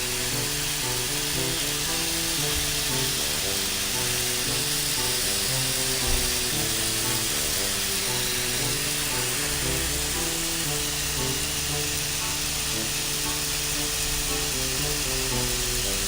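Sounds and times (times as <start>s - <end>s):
background music melody: 0.0s - 16.0s
water spraying from hose: 0.0s - 16.0s.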